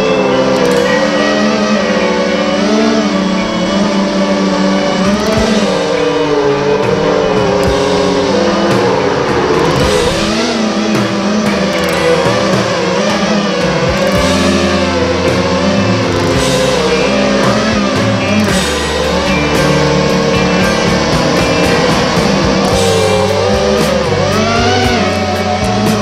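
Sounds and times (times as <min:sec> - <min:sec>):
bass notes: 0:00.0 - 0:26.0
drums playing: 0:00.0 - 0:26.0
electric guitar: 0:00.0 - 0:26.0.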